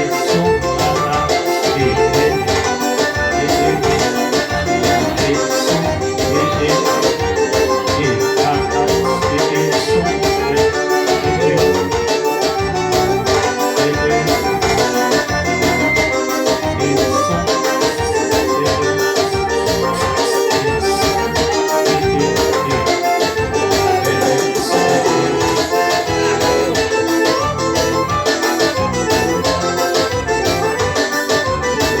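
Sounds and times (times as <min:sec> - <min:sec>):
organ-like keyboard chords: 0:00.0 - 0:32.0
steady beat: 0:00.0 - 0:32.0.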